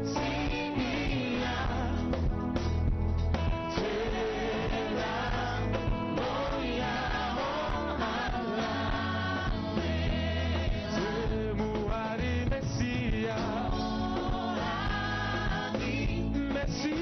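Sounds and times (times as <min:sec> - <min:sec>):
gospel singing with band: 0:00.0 - 0:17.0.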